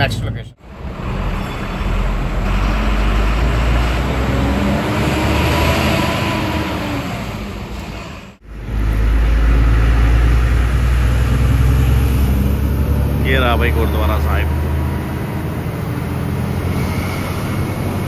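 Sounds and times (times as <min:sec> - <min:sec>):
wind and road noise: 0:00.0 - 0:18.0
truck engine drone: 0:00.6 - 0:18.0.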